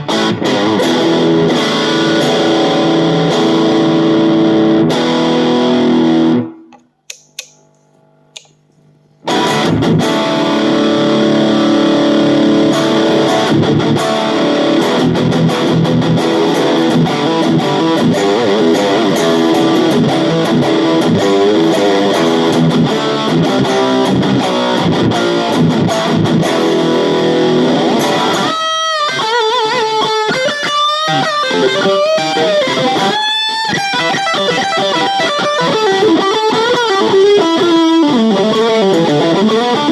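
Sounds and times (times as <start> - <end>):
electric guitar playing: 0.0 - 8.2, 8.8 - 39.9.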